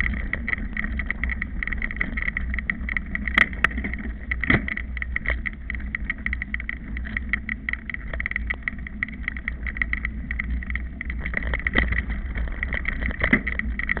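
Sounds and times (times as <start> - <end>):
bike clattering and rattling: 0.0 - 14.0
low tyre rumble: 0.0 - 14.0.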